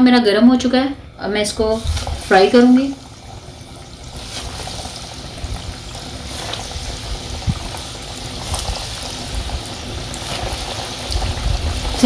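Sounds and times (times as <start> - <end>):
food sizzling in hot oil: 1.4 - 12.0
oil popping: 1.8 - 12.0.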